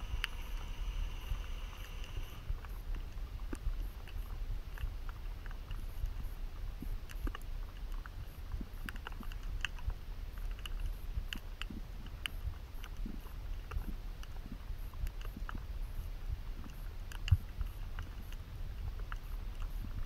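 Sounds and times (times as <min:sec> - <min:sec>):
sharp clicks and crackles: 0:00.0 - 0:20.0.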